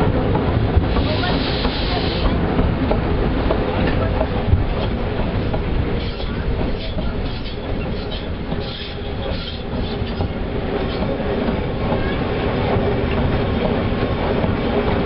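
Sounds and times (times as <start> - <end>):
wheels rumbling on rails: 0.0 - 15.0.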